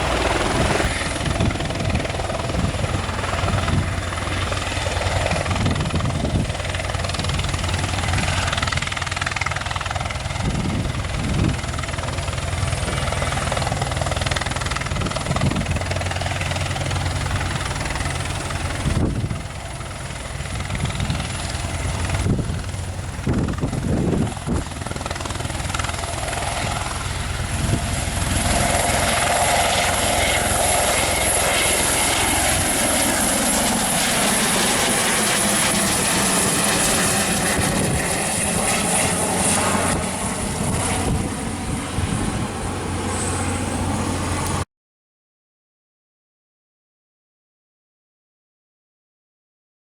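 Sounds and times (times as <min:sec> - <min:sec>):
helicopter engine whine: 0:00.0 - 0:44.6
helicopter rotor noise: 0:00.0 - 0:44.6.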